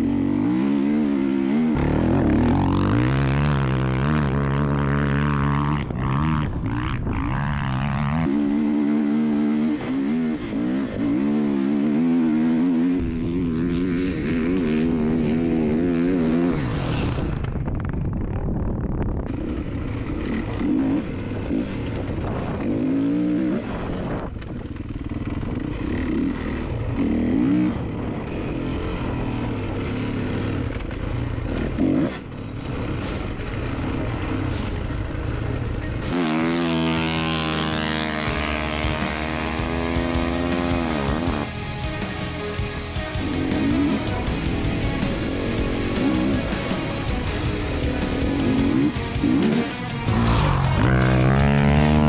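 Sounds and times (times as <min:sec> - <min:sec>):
dirt bike engine revving: 0:00.0 - 0:17.4, 0:19.3 - 0:52.0.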